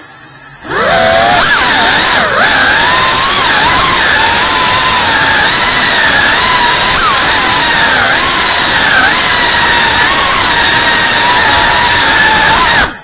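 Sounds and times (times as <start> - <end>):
drone motors whining: 0.0 - 13.0
rushing noise: 0.0 - 13.0.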